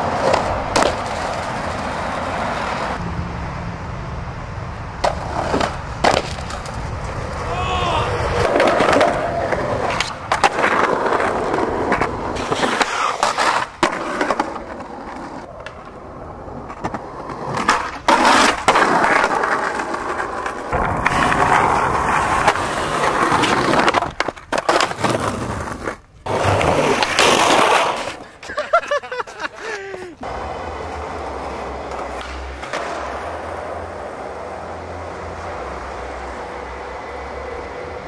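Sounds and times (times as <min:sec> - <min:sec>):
skateboard clacking on ground: 0:00.0 - 0:03.0, 0:05.0 - 0:28.7, 0:29.3 - 0:37.7
skateboard wheels on concrete: 0:00.0 - 0:38.0.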